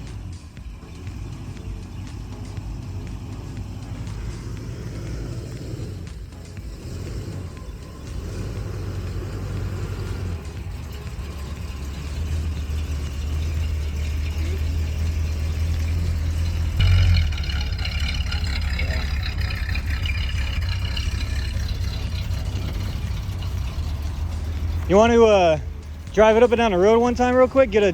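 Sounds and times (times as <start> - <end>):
higher whir: 0.0 - 27.9
pickup engine rumbling: 0.0 - 27.9.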